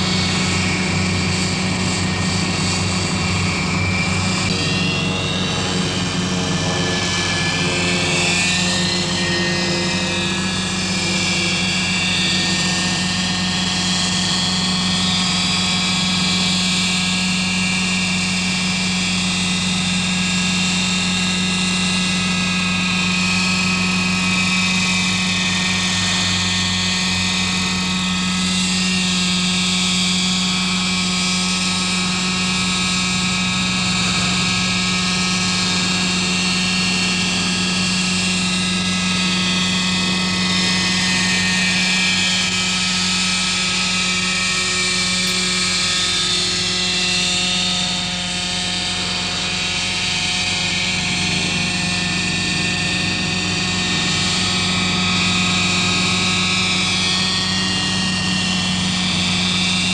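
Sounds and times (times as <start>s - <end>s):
model helicopter engine running: 0.0s - 59.9s.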